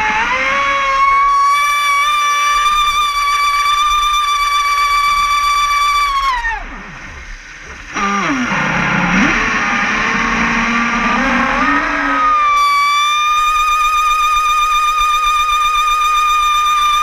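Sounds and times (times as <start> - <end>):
speedboat motor whining: 0.0 - 17.0.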